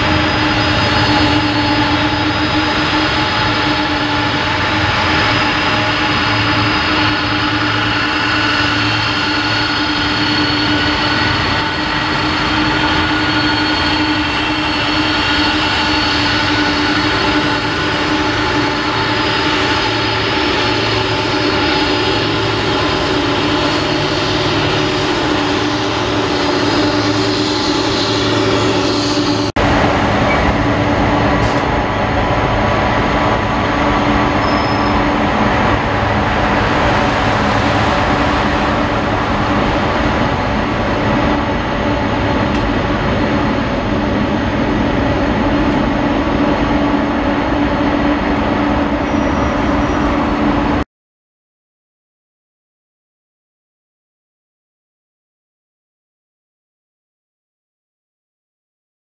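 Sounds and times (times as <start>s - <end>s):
jet engines rumbling and whining: 0.0s - 50.8s.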